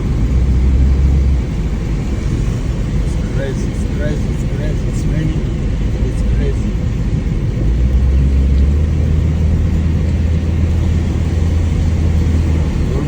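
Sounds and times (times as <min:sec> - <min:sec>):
car engine and road noise drone: 0:00.0 - 0:13.0.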